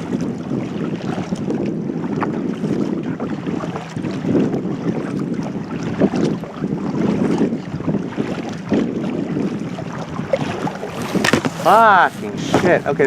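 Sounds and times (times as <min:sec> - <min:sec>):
kayak paddle splashing: 0:00.0 - 0:13.0
wind buffeting microphone: 0:00.0 - 0:13.0.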